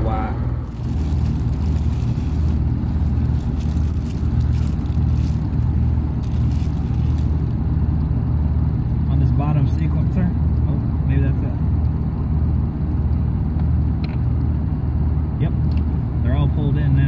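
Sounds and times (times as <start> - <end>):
heat pump compressor humming: 0.0 - 17.0.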